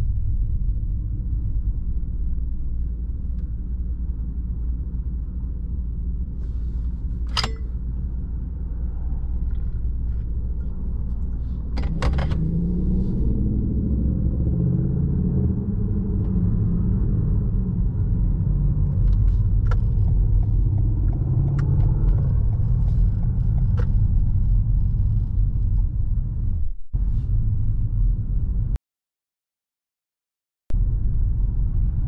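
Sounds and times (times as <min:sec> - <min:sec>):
car engine rumble: 0:00.0 - 0:28.8, 0:30.7 - 0:32.0
road noise: 0:00.0 - 0:28.8, 0:30.7 - 0:32.0.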